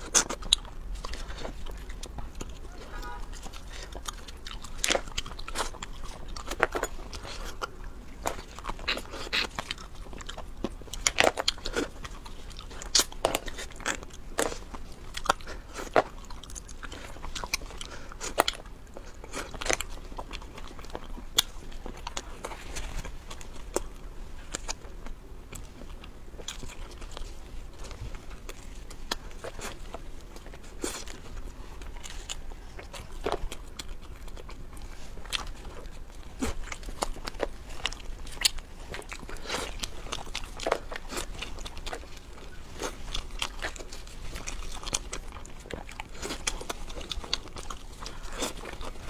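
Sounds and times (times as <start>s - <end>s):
crunching and chewing crayfish: 0.0s - 49.0s.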